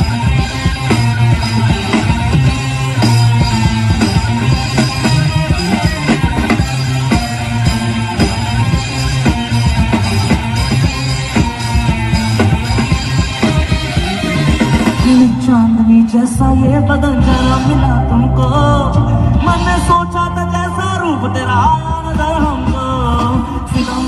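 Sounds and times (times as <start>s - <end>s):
instrumental rock music: 0.0s - 24.0s.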